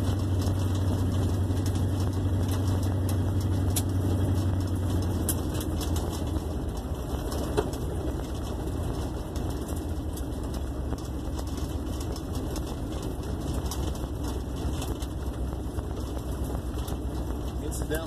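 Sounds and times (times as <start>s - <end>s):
car engine droning: 0.0s - 18.0s
light rattles: 0.0s - 18.0s.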